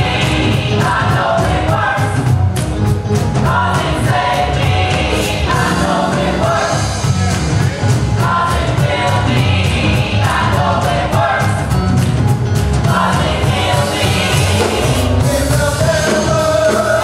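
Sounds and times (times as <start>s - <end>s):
electric bass guitar: 0.0s - 17.0s
gospel choir singing: 0.0s - 17.0s
keyboard: 0.0s - 17.0s.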